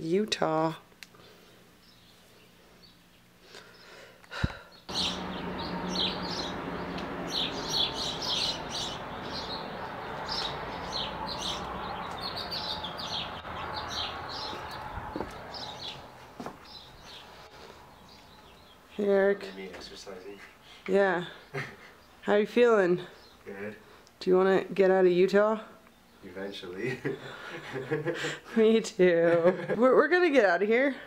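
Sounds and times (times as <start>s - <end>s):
outdoor background noise: 0.0s - 31.0s
small birds chirping: 1.0s - 27.9s.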